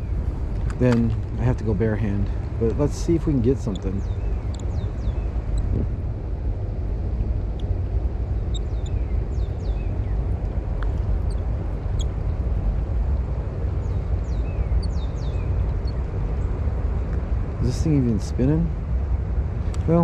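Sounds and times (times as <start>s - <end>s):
small birds chirping: 0.0s - 6.0s, 7.5s - 18.4s
low outdoor rumble: 0.0s - 20.0s.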